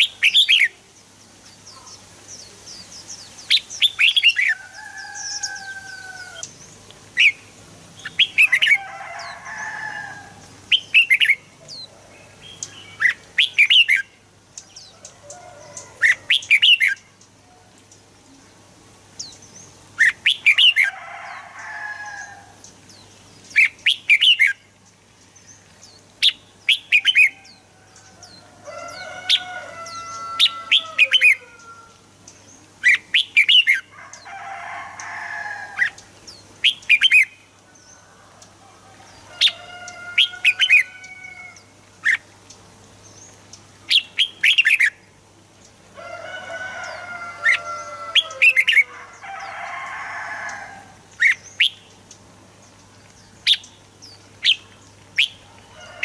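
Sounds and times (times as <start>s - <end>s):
bird chirping and warbling: 0.0s - 0.8s, 1.4s - 17.3s, 19.2s - 20.9s, 22.6s - 24.7s, 25.4s - 34.3s, 35.7s - 38.0s, 39.1s - 42.3s, 43.0s - 45.1s, 46.7s - 55.7s.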